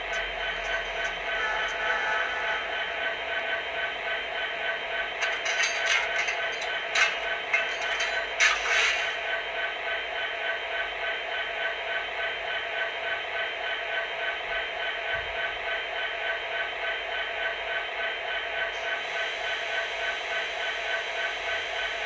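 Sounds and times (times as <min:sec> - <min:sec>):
model locomotive diesel idle sound: 0:00.0 - 0:22.0.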